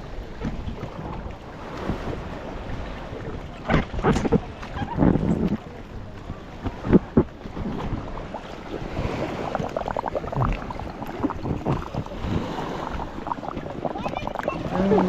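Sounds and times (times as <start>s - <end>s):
sea water splashing: 0.0s - 15.0s.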